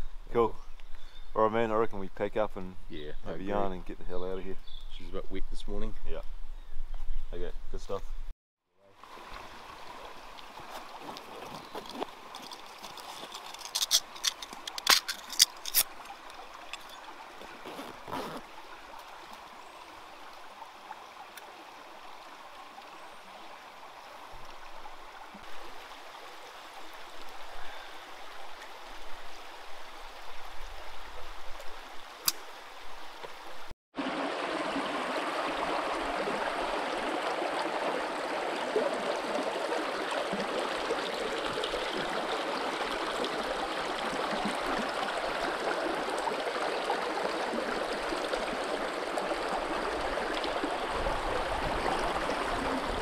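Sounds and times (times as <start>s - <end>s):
stream running over stones: 8.8s - 53.0s.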